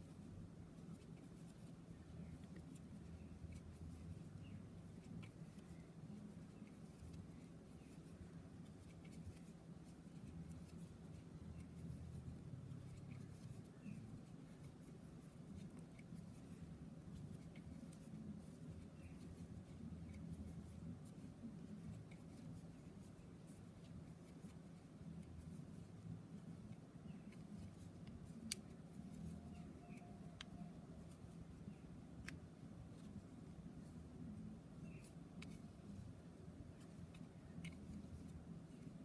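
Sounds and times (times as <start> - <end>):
crochet hook rustling thread: 0.0 - 39.0.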